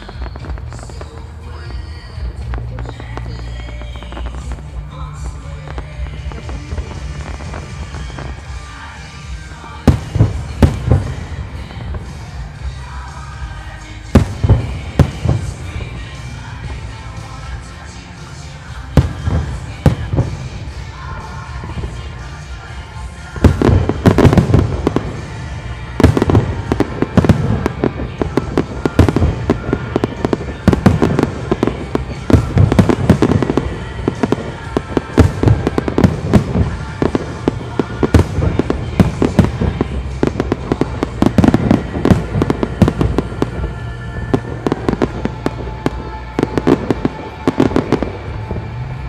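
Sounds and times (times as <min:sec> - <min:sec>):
fireworks bursting: 0:00.0 - 0:49.0
music playing: 0:00.0 - 0:49.0.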